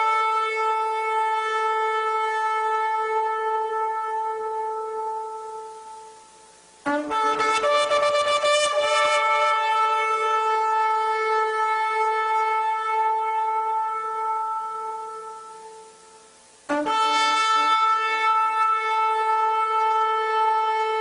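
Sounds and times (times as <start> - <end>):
ram's horn blast: 0.0 - 21.0.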